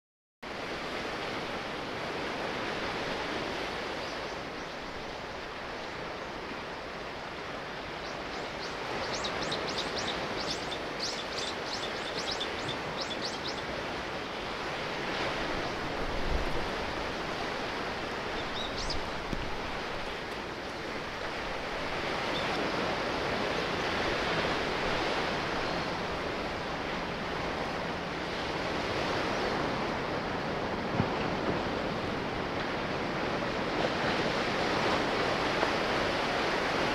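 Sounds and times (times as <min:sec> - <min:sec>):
sea waves washing in: 0:00.4 - 0:36.9.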